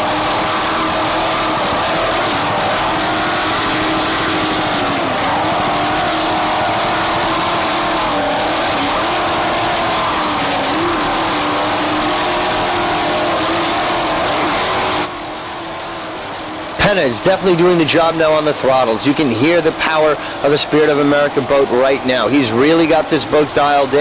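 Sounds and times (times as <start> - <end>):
powerboat engines droning: 0.0 - 24.0.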